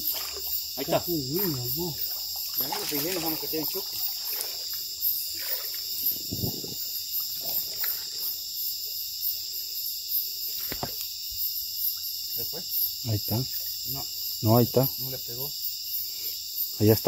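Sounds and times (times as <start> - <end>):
night insects chirring: 0.0 - 17.0.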